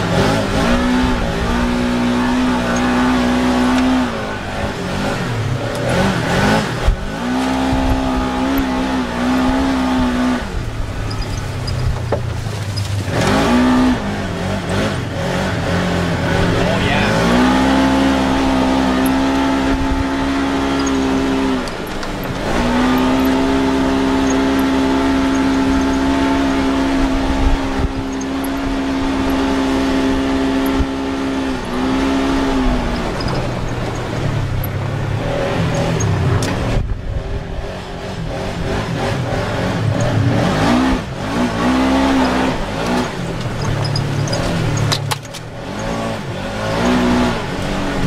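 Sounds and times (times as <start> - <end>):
utility vehicle engine revving: 0.0 - 48.0.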